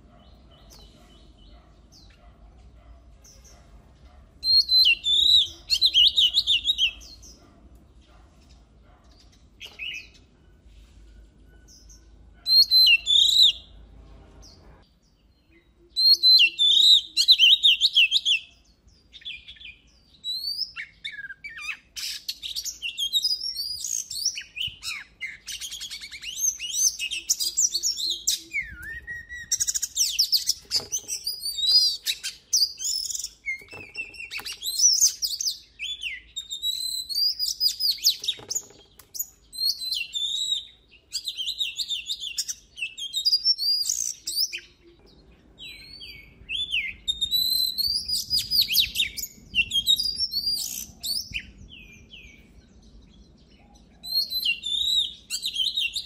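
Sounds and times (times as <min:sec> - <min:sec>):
bird singing whistles and trills: 0:04.4 - 0:07.5, 0:09.0 - 0:13.8, 0:15.2 - 0:56.0.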